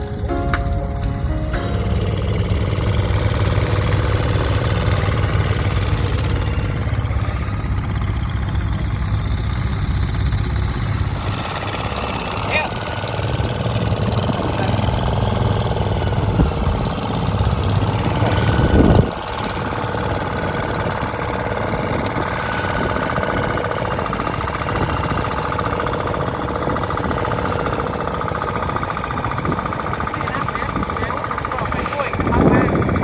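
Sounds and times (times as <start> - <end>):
engine running: 0.0 - 33.0
heavy low rumble: 0.0 - 33.0.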